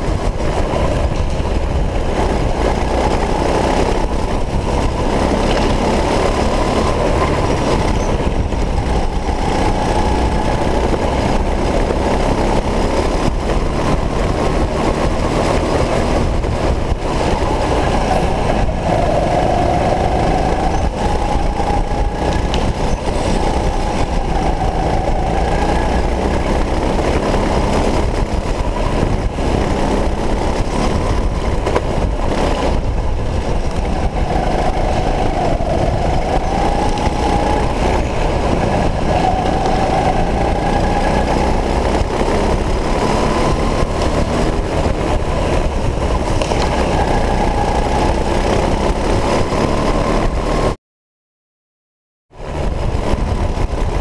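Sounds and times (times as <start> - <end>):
go-kart motor rumble: 0.0 - 50.8, 52.4 - 54.0.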